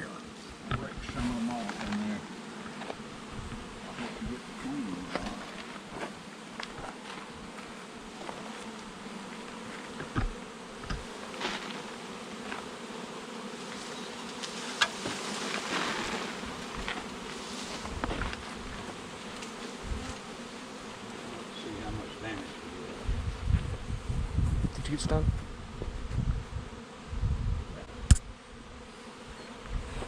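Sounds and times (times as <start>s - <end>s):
bees buzzing: 0.0s - 30.0s
rustle: 0.1s - 24.6s.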